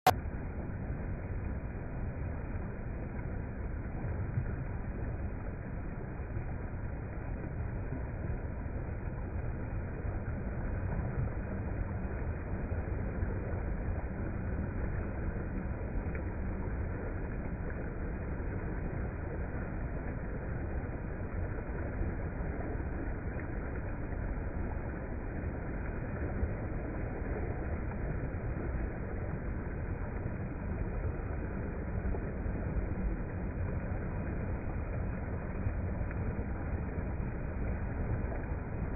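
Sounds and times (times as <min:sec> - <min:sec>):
fast-flowing river water: 0:00.6 - 0:38.9.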